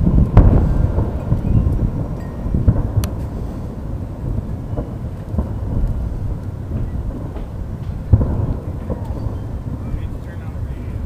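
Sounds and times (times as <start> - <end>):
distant fireworks booming: 0.0 - 11.0
low rumble: 0.0 - 11.0.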